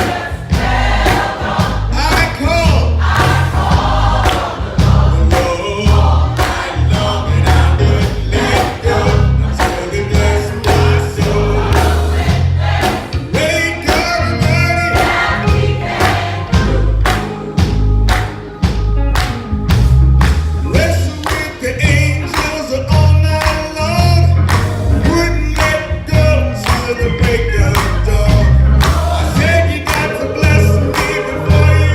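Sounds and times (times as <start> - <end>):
gospel choir singing: 0.0 - 19.3, 20.5 - 31.9
band with bass and drums: 0.0 - 31.9.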